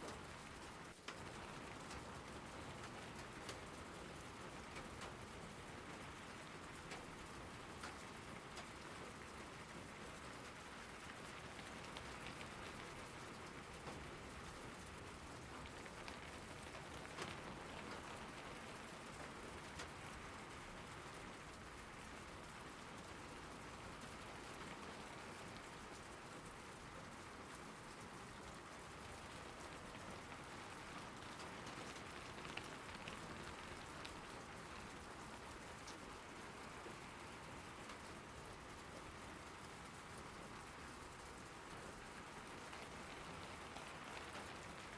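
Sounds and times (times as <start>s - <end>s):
rain falling: 0.0s - 44.9s
raindrops ticking: 0.0s - 44.9s.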